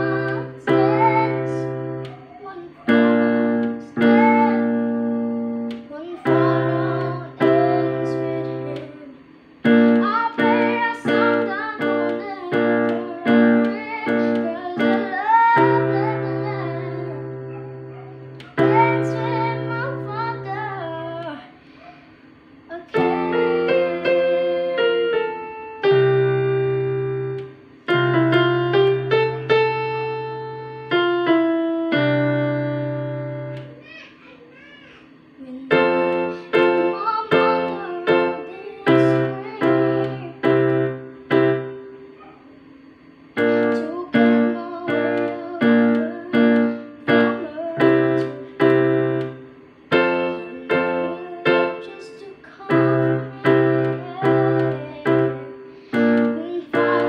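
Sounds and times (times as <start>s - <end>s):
child singing ballad: 0.0s - 17.6s, 18.5s - 21.6s, 22.7s - 27.0s, 31.9s - 41.0s, 43.4s - 57.0s
keyboard piano chords: 0.0s - 34.1s, 35.2s - 57.0s.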